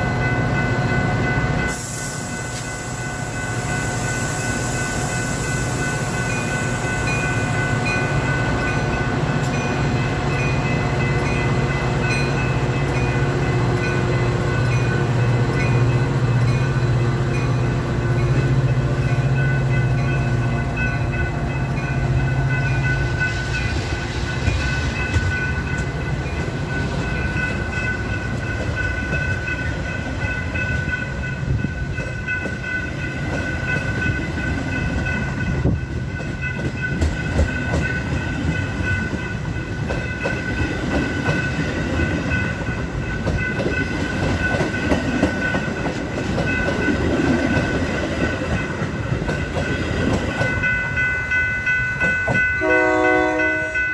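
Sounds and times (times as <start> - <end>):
diesel locomotive engine: 0.0 - 53.9
train cars rolling: 0.0 - 53.9.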